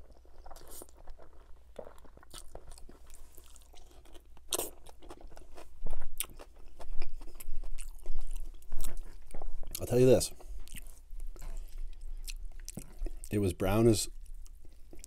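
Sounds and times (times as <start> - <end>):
wet chewing with mouth smacks: 0.0 - 13.4.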